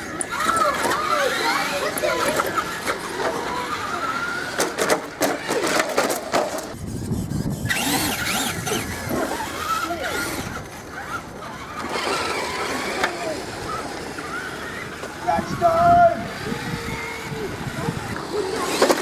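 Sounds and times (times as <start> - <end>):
children making engine noises: 0.0 - 5.9, 7.2 - 19.0.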